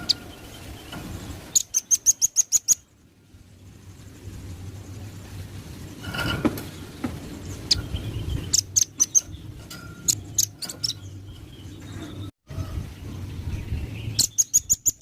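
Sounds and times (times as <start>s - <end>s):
low steady hum: 0.0s - 14.6s
bird chirping: 0.0s - 15.0s.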